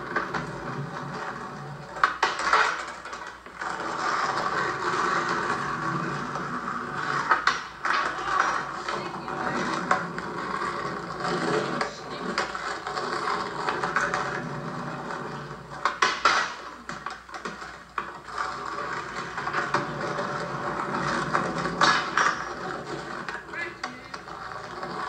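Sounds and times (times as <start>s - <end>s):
skateboard clacking on ground: 0.0s - 25.0s
skateboard wheels rolling on pavement: 0.0s - 25.0s.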